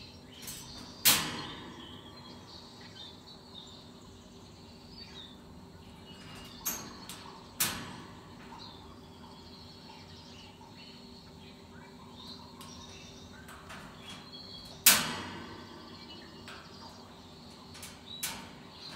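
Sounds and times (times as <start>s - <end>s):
faint bird chirps: 0.0s - 18.9s
faint steady hum: 0.0s - 18.9s.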